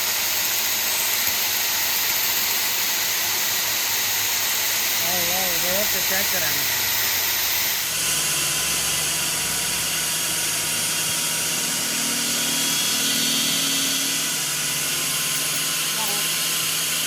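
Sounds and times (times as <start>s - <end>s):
workshop machine running: 0.0s - 17.0s.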